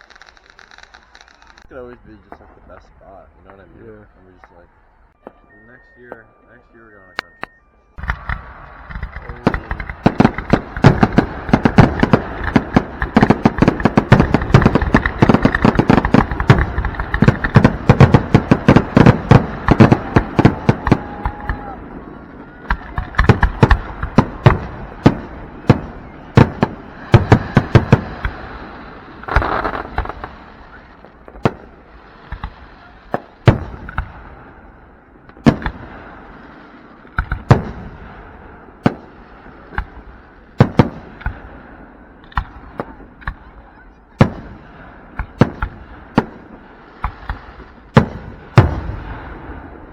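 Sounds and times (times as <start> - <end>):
fireworks exploding: 0.0 - 5.5, 8.0 - 49.9
fireworks crackling: 0.0 - 49.9.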